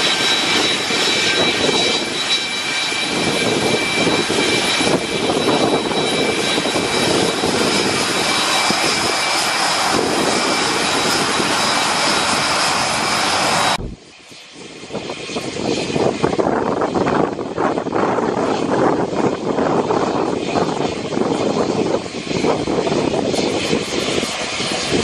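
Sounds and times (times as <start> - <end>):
turboprop engines running: 0.0 - 25.0.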